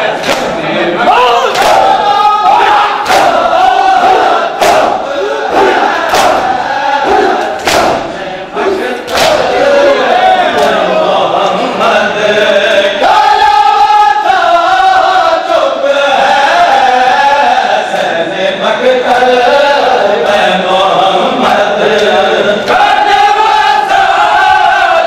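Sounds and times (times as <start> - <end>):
men chanting a lament: 0.0 - 25.0.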